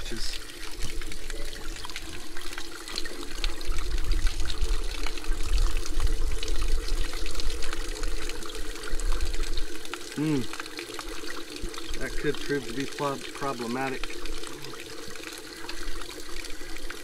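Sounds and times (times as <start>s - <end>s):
hose water pouring: 0.0s - 17.0s.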